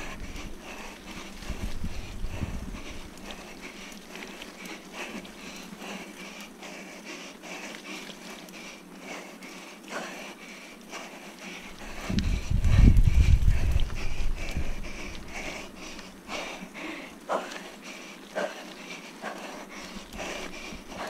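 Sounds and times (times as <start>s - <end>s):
bike clicking and rattling: 0.0s - 10.1s, 10.9s - 17.7s.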